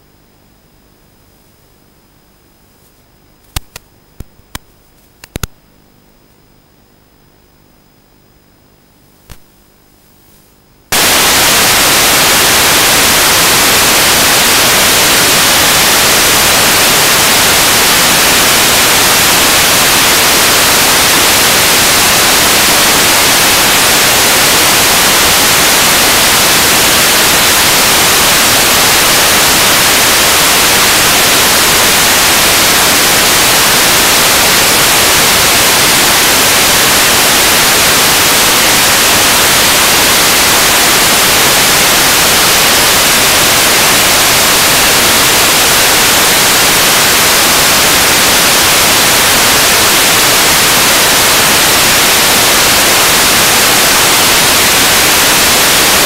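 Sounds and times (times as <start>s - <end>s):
loud static hiss: 0.0s - 56.0s.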